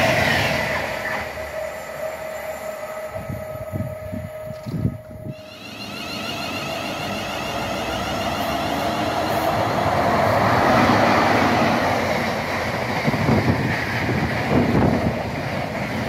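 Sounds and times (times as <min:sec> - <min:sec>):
freight train passing at speed: 0:00.0 - 0:16.0
wheels rushing on rail: 0:00.0 - 0:16.0.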